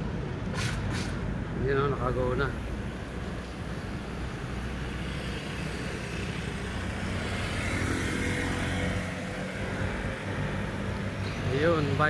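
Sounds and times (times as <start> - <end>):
passing vehicle engine whine: 0.0 - 12.0
traffic engine drone: 0.0 - 12.0.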